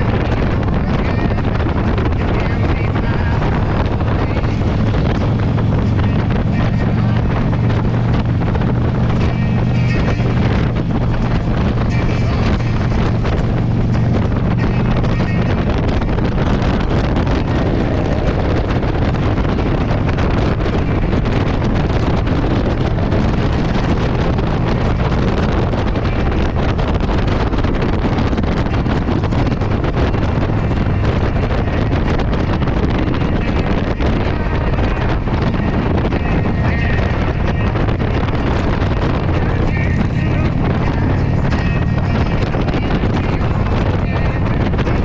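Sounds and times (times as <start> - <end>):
motorcycle engine running: 0.0 - 45.0
wind buffeting microphone: 0.0 - 45.0.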